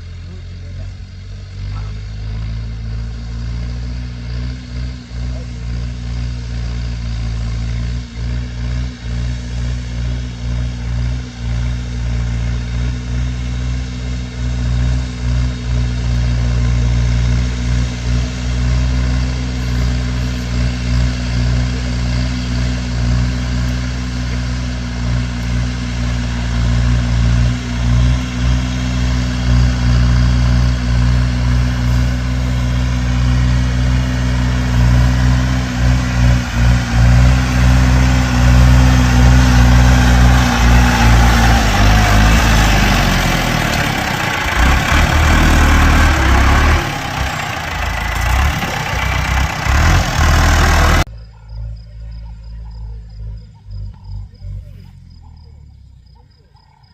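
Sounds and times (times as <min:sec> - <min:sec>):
tractor diesel engine running: 0:00.0 - 0:56.8.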